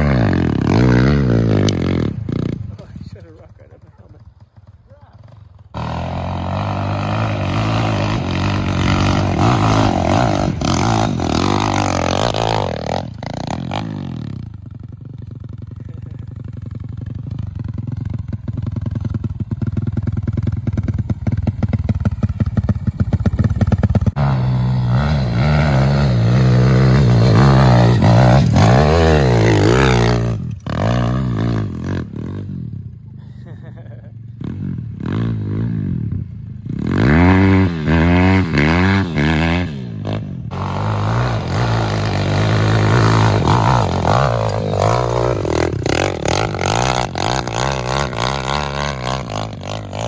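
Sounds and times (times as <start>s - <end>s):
pit bike engines revving: 0.0s - 50.0s.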